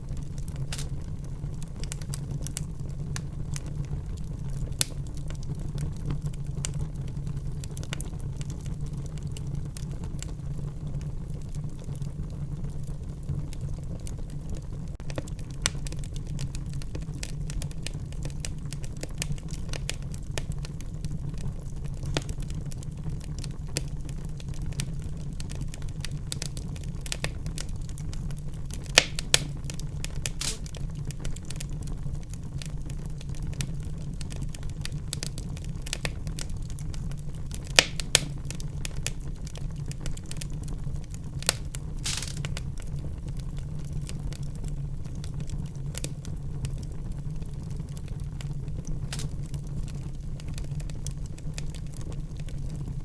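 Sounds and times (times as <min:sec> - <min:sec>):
fire pops: 0:00.0 - 0:53.0
wood fire crackling: 0:00.0 - 0:53.0.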